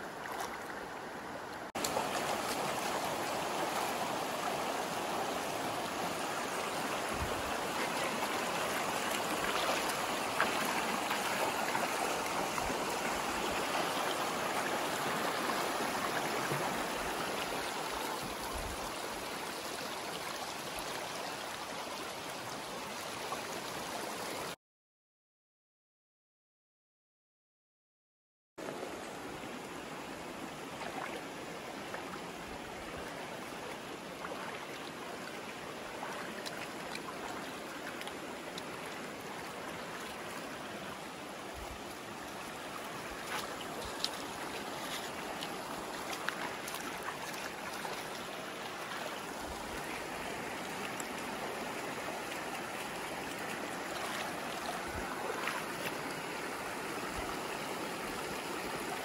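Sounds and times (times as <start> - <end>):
creek water flowing over stones: 0.0 - 24.6, 28.6 - 59.0.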